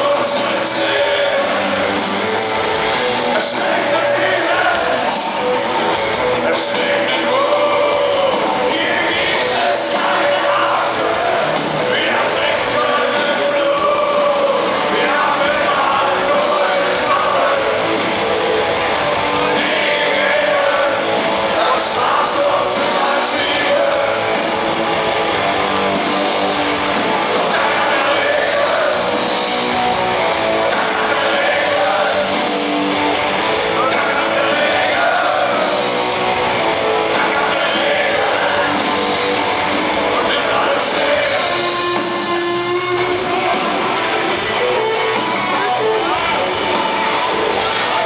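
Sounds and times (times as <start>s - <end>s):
male lead vocal: 0.0s - 2.3s, 3.0s - 18.6s, 19.3s - 24.6s, 27.2s - 29.5s, 30.6s - 32.8s, 33.4s - 44.5s
rock band playing live: 0.0s - 48.0s.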